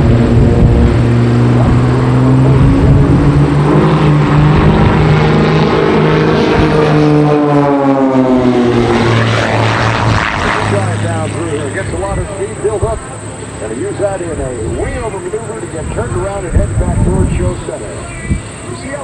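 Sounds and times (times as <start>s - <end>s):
propeller engines droning: 0.0s - 19.0s.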